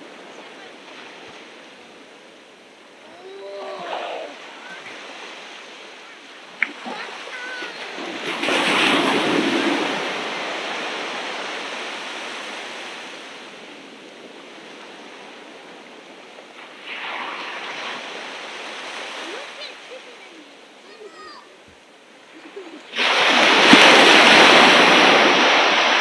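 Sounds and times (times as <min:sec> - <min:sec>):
waves breaking on beach: 0:00.0 - 0:26.0.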